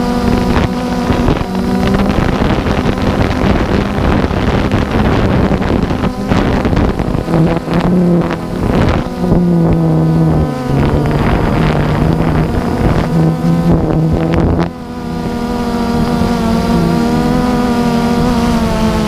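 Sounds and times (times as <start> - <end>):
drone propellers buzzing: 0.0 - 19.0
wind buffeting microphone: 0.0 - 19.0.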